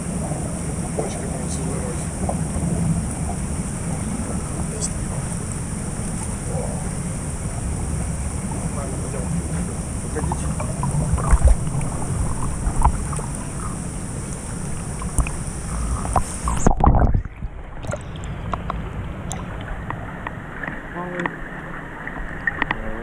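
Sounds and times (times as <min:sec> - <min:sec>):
whirlpool jets bubbling water: 0:00.0 - 0:23.0.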